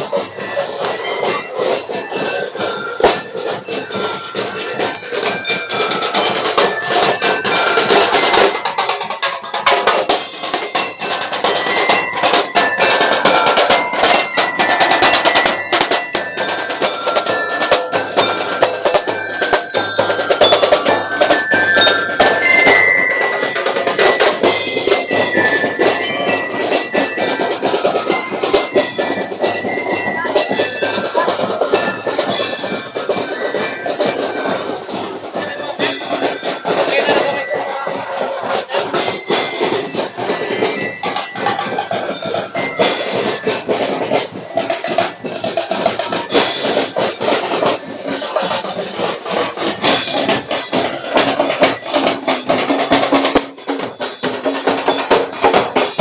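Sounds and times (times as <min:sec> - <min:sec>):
fast snare and bass drumming: 0:00.0 - 0:56.0.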